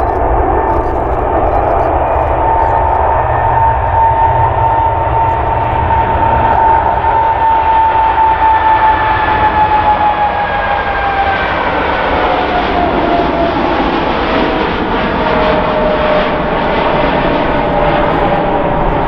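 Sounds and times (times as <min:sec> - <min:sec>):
jet engine rumble: 0:00.0 - 0:19.0
jet engine whine: 0:00.0 - 0:19.0.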